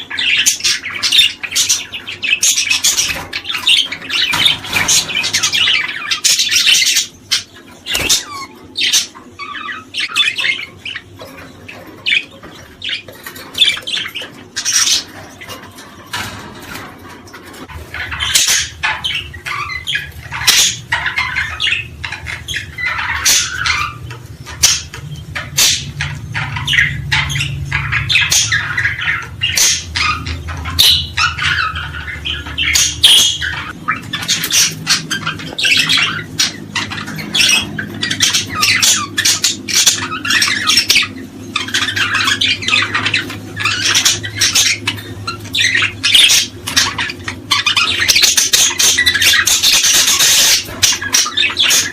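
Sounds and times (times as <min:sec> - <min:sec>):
chorus of small birds chirping: 0:00.0 - 0:51.9.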